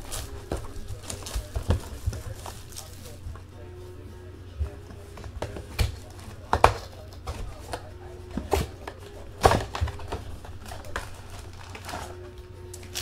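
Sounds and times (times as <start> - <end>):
cardboard box and cards handled: 0.0 - 3.4, 4.9 - 12.2
steady low hum: 0.0 - 13.0.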